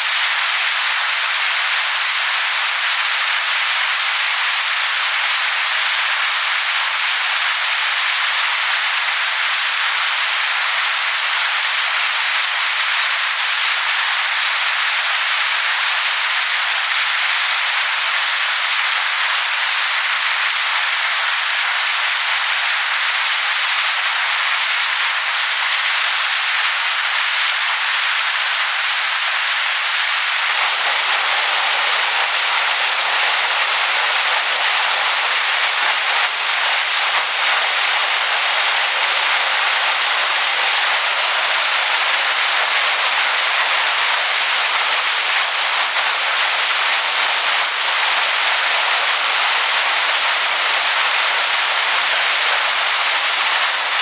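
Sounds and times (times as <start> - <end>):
waterfall splashing onto rocks: 0.0 - 54.0.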